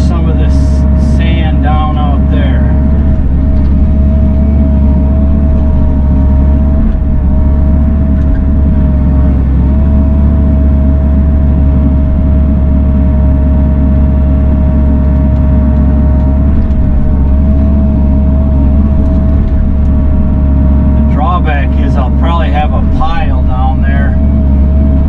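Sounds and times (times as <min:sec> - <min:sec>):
diesel engine drone: 0:00.0 - 0:25.0
hydraulic whine: 0:00.0 - 0:25.0.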